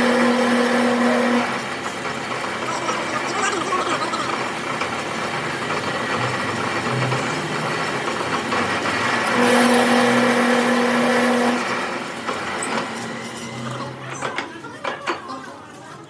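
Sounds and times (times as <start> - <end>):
mechanical running noise: 0.0 - 16.0.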